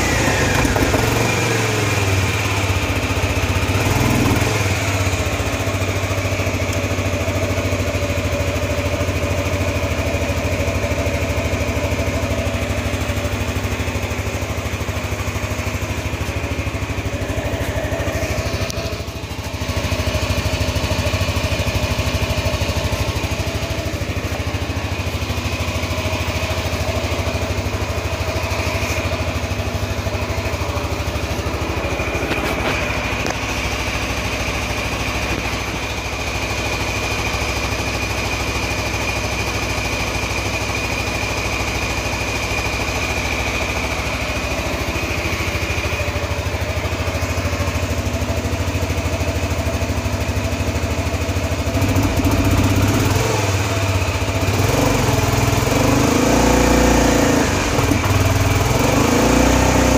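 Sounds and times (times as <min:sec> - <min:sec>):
scooter engine running: 0:00.0 - 0:59.9.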